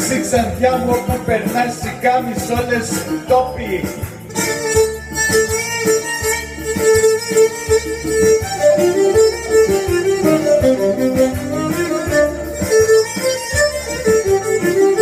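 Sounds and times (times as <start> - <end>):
rhythmic accompaniment: 0.0 - 15.0
violin folk melody: 0.7 - 15.0.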